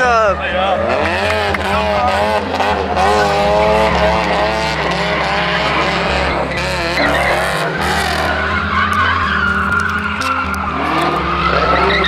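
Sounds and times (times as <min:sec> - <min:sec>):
car engine at high revs: 0:00.0 - 0:12.0
car tires squealing: 0:00.0 - 0:12.0.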